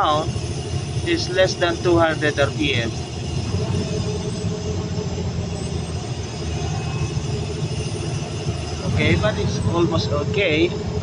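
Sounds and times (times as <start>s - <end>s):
excavator diesel engine running: 0.0s - 11.0s
faint high whine: 0.0s - 11.0s.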